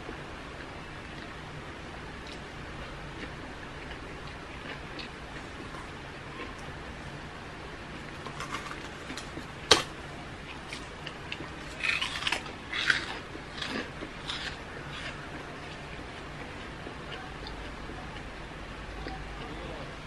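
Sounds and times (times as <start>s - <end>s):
crunchy food noise: 0.0s - 20.0s
woman chewing: 2.0s - 19.5s.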